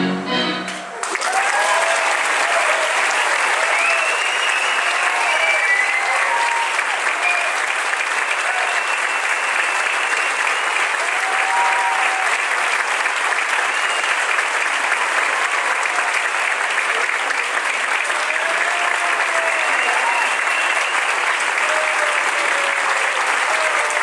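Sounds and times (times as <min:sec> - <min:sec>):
large audience applauding: 0:00.7 - 0:24.0.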